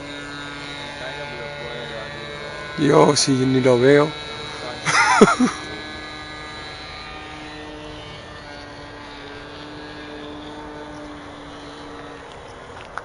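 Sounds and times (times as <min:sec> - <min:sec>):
model aircraft motor droning: 0:00.0 - 0:13.0.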